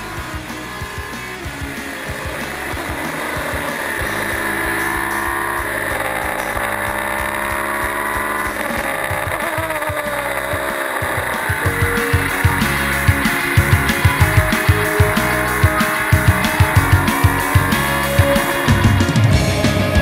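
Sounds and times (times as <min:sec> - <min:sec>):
racing car engine running hard: 0:00.0 - 0:20.0.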